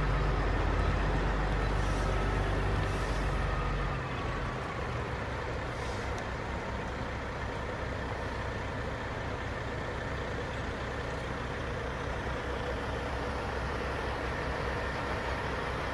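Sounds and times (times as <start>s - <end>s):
diesel truck engine rumbling: 0.0s - 15.9s.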